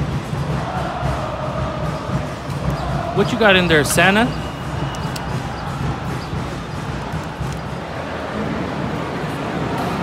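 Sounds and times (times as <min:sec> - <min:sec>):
crowd noise with indistinct voices: 0:00.0 - 0:10.0.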